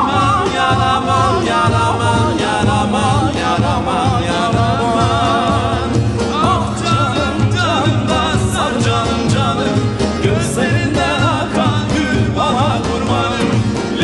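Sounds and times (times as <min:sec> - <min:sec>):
folk lute ensemble playing: 0:00.0 - 0:14.0
man singing: 0:00.0 - 0:14.0.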